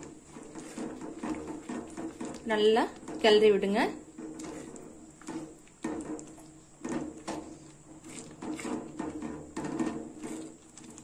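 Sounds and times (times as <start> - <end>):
spatula stirring and scraping paste: 0.0 - 11.0.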